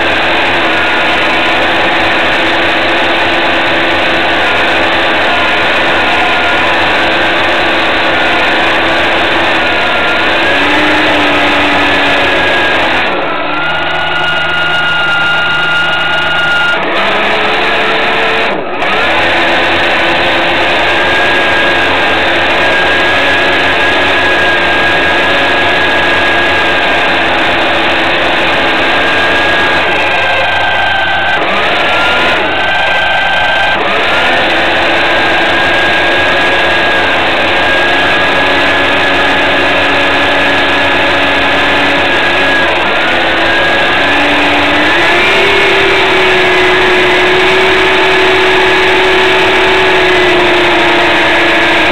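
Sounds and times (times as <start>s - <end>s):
boat motor whining: 0.0s - 51.9s.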